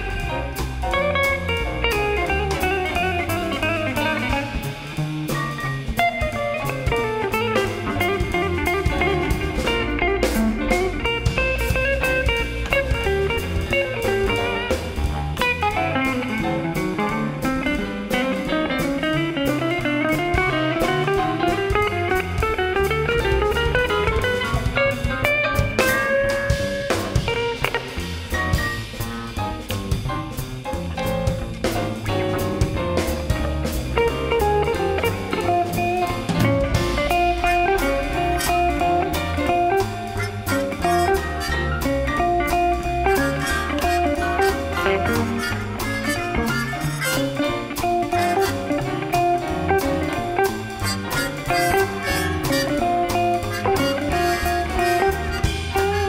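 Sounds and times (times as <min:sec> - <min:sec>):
double bass: 0:00.0 - 0:56.0
drums: 0:00.0 - 0:56.0
jazz electric guitar solo: 0:00.0 - 0:56.0
piano: 0:00.0 - 0:56.0.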